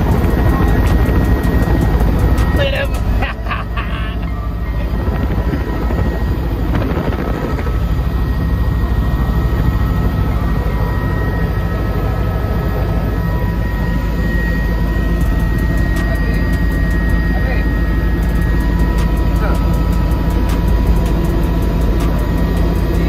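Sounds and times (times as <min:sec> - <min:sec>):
helicopter drone: 0:00.0 - 0:23.0
high whining tones: 0:00.0 - 0:23.0.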